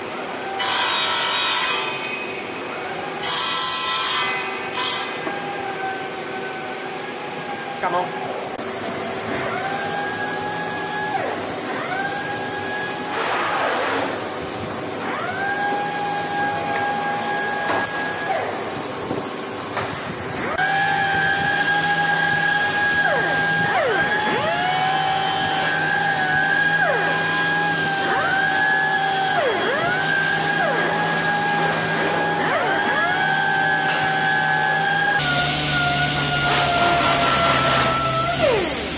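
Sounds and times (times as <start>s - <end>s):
pneumatic sanders whining: 0.0s - 7.6s, 8.6s - 38.9s
steady machine hum: 5.5s - 38.9s.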